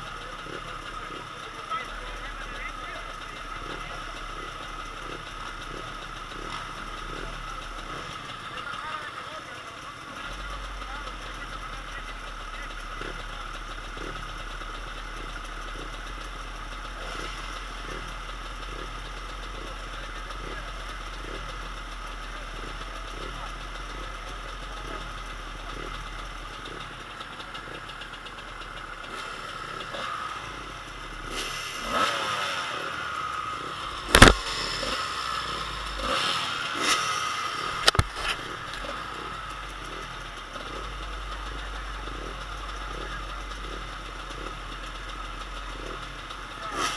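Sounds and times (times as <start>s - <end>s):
dirt bike engines droning: 0.0s - 46.9s.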